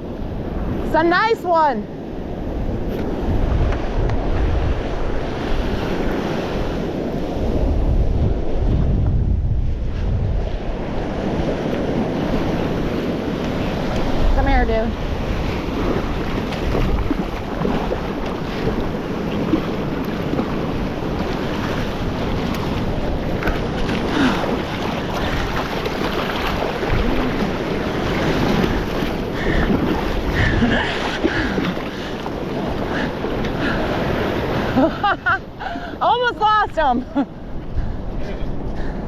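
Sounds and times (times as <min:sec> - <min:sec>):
surf washing onto beach: 0:00.0 - 0:39.0
wind buffeting microphone: 0:00.0 - 0:39.0.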